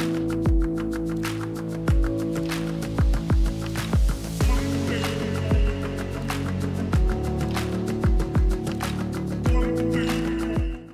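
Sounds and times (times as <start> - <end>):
background music with sustained tones: 0.0 - 10.9.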